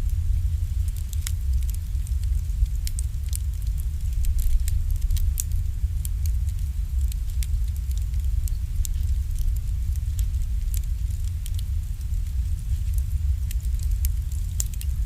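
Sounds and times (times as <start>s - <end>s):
campfire crackling: 0.0s - 15.0s
low rumble: 0.0s - 15.0s.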